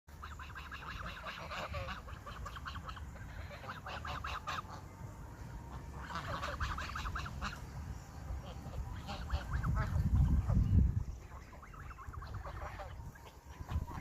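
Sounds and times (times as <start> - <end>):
goose honking: 0.1 - 14.0.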